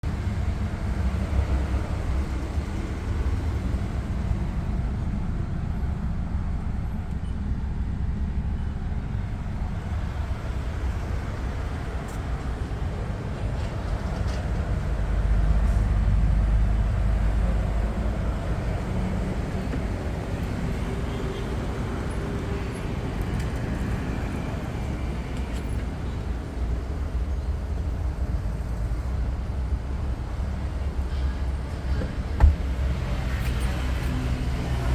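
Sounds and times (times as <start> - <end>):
low vehicle rumble: 0.0 - 34.9.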